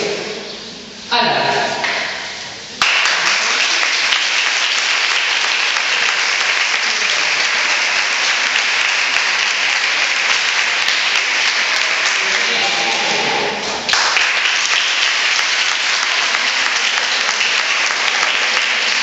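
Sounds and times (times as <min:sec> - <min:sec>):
crowd applauding: 0:02.8 - 0:19.0.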